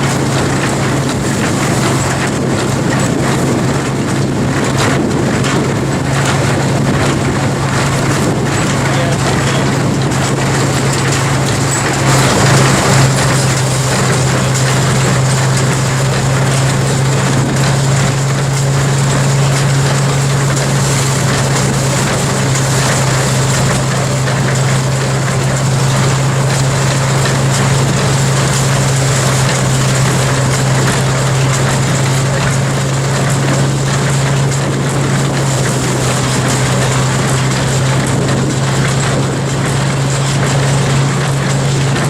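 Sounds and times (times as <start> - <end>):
threshing machine running: 0.0 - 42.0.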